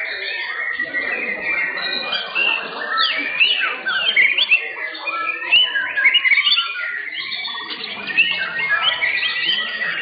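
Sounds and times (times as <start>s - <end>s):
birds singing overlapping whistles: 0.0s - 10.0s.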